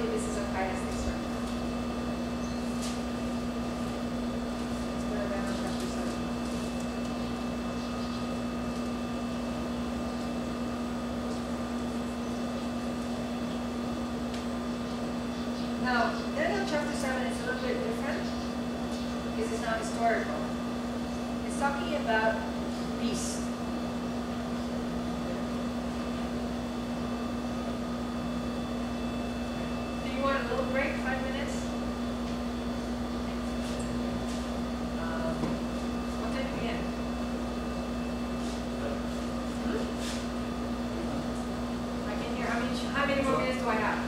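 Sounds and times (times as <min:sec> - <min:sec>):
electrical hum: 0:00.0 - 0:44.0.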